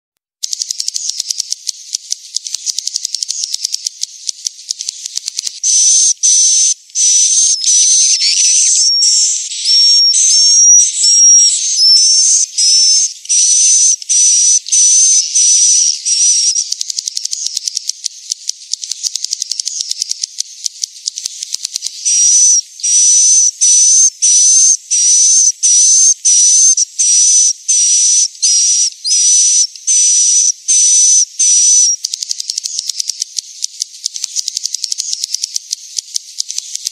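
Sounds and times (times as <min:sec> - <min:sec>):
fast dry clicking: 0:00.4 - 0:10.6, 0:11.2 - 0:36.9
high twittering bird chirps: 0:00.4 - 0:36.9.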